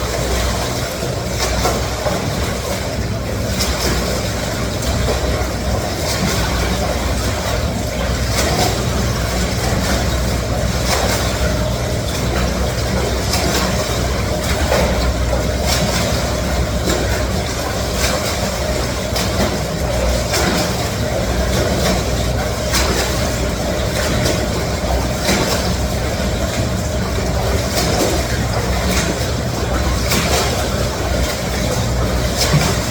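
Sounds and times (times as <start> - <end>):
rush of churning water: 0.0 - 32.9
swimming stroke splashes: 0.0 - 32.9.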